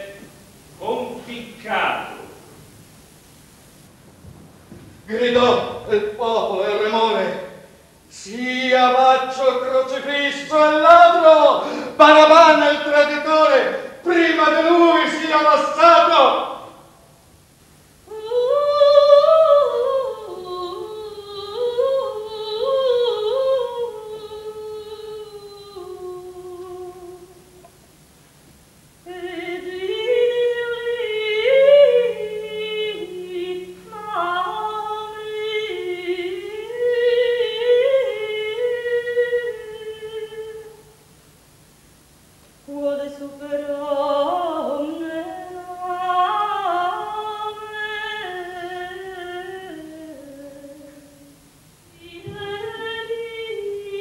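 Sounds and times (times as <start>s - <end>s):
woman singing wordless melody: 5.0s - 16.8s, 17.9s - 27.8s, 29.0s - 41.0s, 42.6s - 54.0s.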